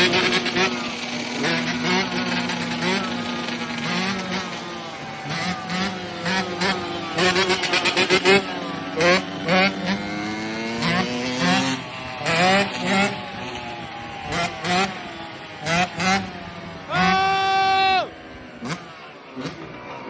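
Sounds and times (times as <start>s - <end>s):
dirt bike engine blipping: 0.0s - 20.0s.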